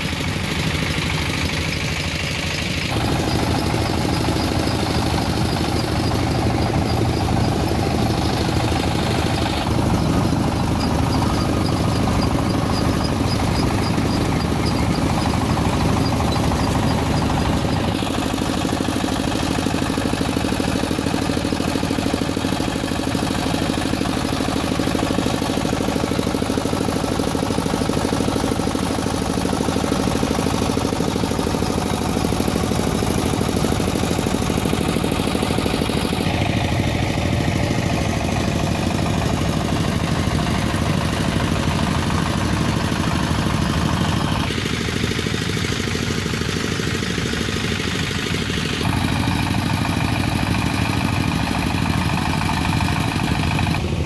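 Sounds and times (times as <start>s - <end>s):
diesel engine running thresher: 0.0s - 54.0s.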